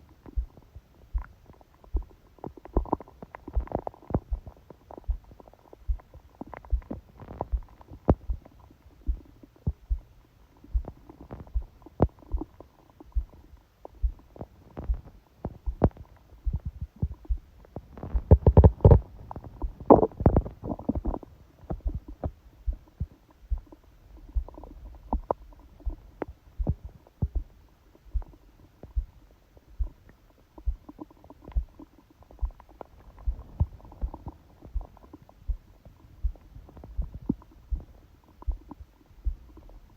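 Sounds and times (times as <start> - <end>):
stomach gurgling and rumbling: 0.0 - 39.9
quick heartbeat thuds: 0.3 - 39.9.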